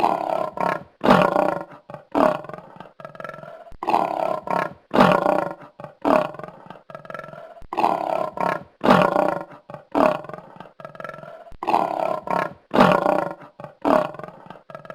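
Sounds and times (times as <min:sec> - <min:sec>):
lioness roaring: 0:00.0 - 0:14.9.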